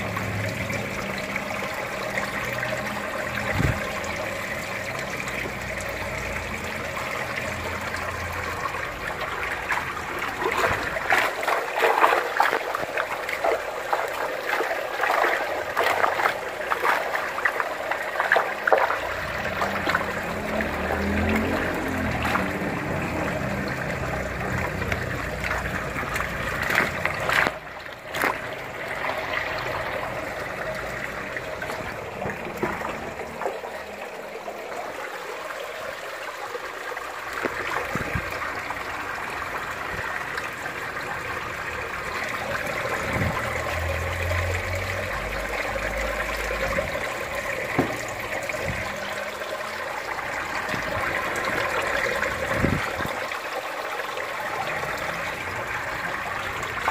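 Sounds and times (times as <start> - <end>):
sharp water splashes: 0.0 - 56.9
water pouring into fish tank: 0.0 - 56.9.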